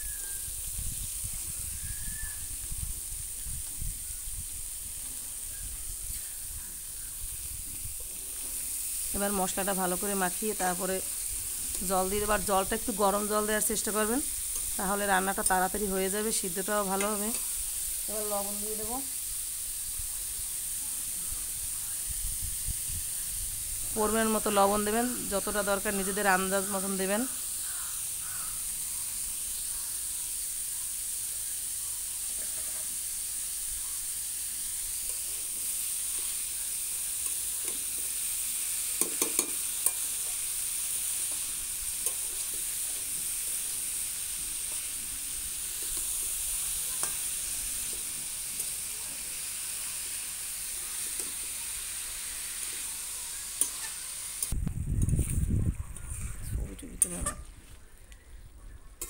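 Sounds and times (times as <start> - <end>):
vegetables sizzling in a pan: 0.0 - 55.5.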